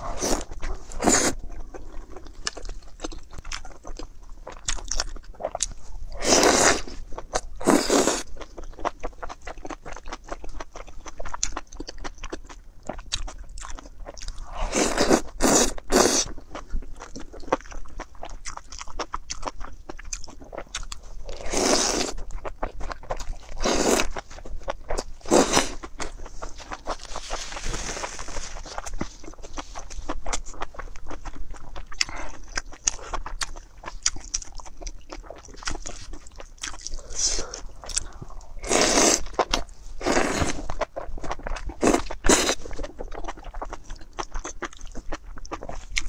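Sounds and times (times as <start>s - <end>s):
wet chewing: 0.0s - 46.0s.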